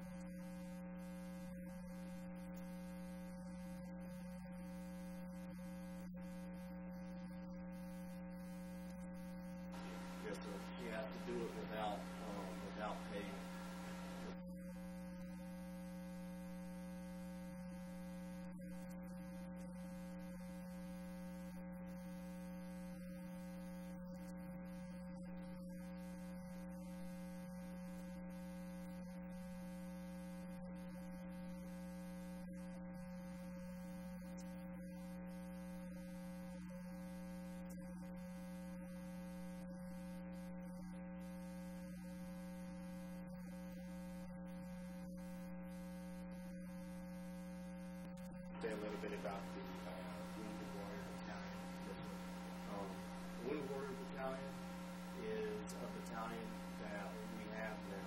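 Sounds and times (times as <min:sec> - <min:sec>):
buzzy mains hum: 0:00.0 - 0:58.0.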